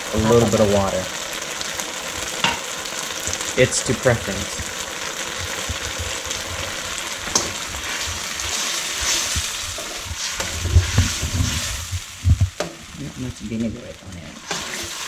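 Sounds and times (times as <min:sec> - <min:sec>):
sauce bubbling and sizzling: 0:00.0 - 0:15.0.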